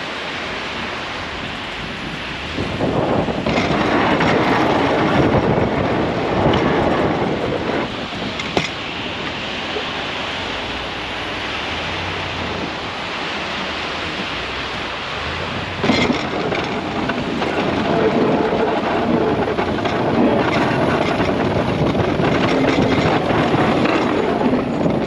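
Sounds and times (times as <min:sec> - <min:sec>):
slush rushing under plow blade: 0:00.0 - 0:25.0
truck engine hum: 0:00.7 - 0:25.0.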